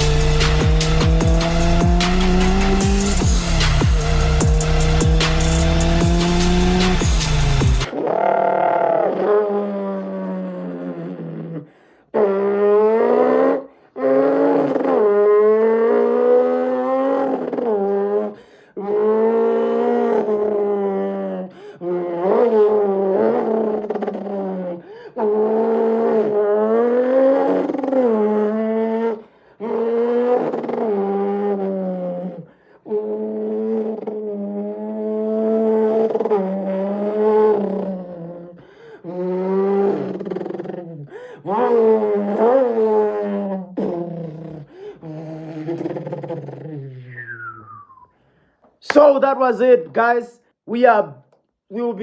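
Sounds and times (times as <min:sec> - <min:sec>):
man imitating engine revving: 0:00.0 - 0:47.9.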